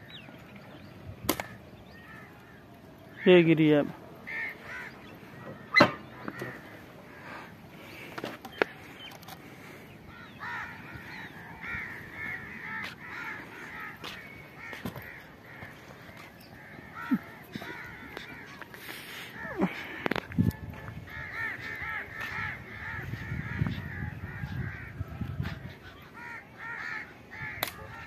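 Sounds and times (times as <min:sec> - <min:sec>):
birds calling harshly: 0:00.0 - 0:28.0.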